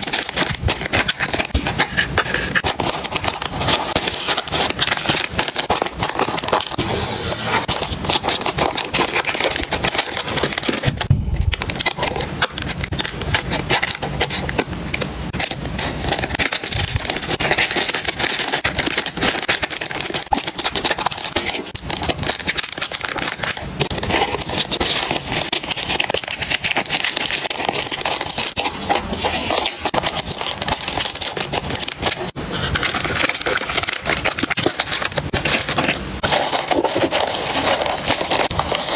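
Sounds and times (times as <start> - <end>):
plastic bags crinkling: 0.0 - 38.9.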